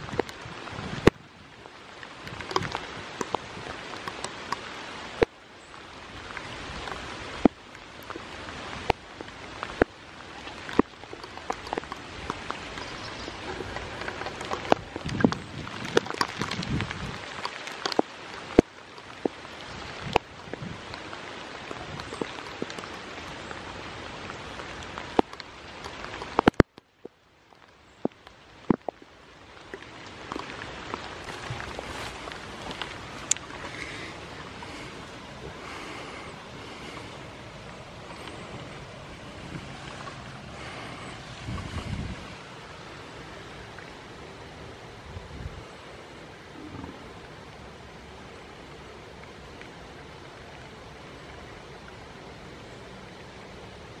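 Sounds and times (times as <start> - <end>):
raindrops tapping near microphone: 0.0 - 54.0
steady rain: 0.0 - 54.0.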